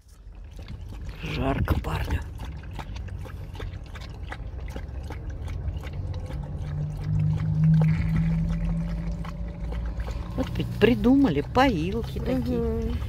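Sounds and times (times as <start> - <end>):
dog lapping water: 0.0 - 13.0
low steady hum: 0.0 - 13.0.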